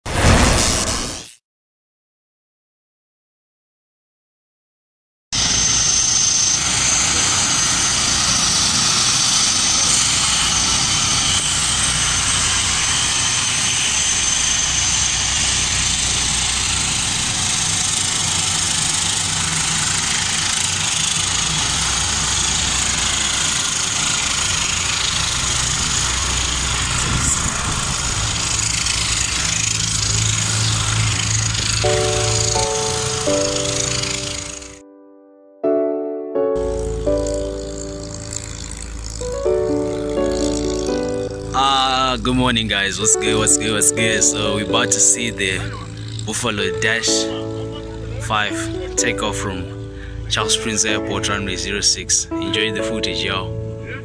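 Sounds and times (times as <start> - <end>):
turboprop engines running: 5.4 - 34.8, 36.6 - 54.0.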